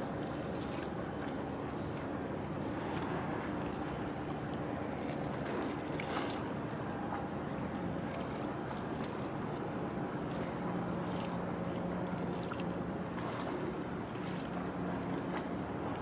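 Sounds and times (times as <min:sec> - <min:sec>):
boat engine humming: 0:00.0 - 0:16.0
water wash: 0:00.0 - 0:16.0.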